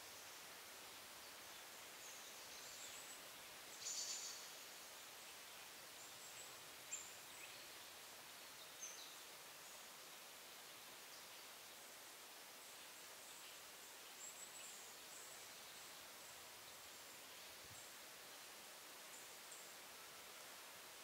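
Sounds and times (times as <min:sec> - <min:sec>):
outdoor hiss: 0:00.0 - 0:21.0.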